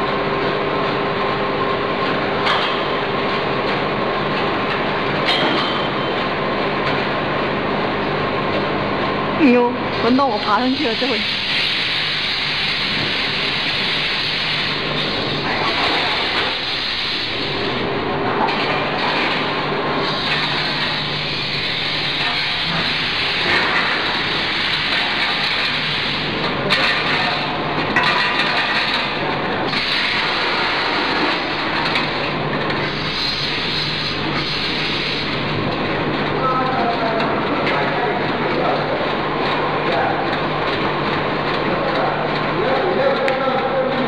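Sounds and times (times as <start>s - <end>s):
dense mechanical noise: 0.0s - 44.0s
low machine hum: 0.0s - 44.0s.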